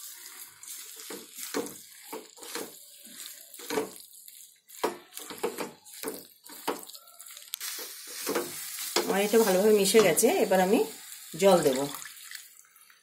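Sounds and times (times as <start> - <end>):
spatula scraping wet food in pan: 0.0 - 11.3.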